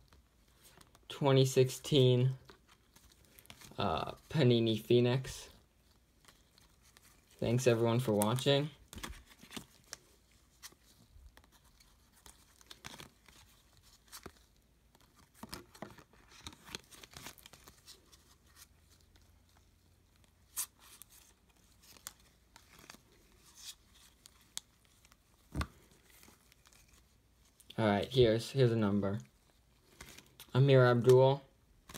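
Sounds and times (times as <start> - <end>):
trading cards rustling and clicking: 0.0 - 27.8, 29.2 - 31.9.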